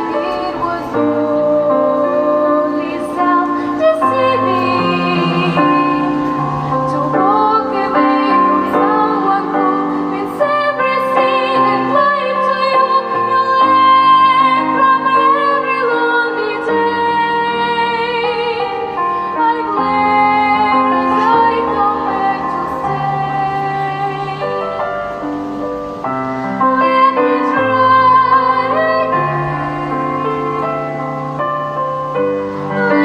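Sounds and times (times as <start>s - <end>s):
girl singing a slow ballad: 0.0s - 33.0s
piano accompaniment: 0.0s - 33.0s.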